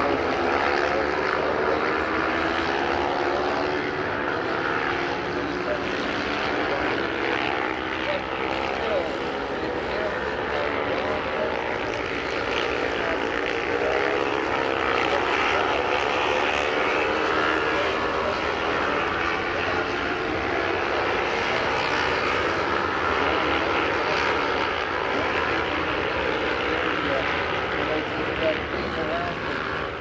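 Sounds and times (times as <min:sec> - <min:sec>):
distant racing motorcycles: 0:00.0 - 0:30.0.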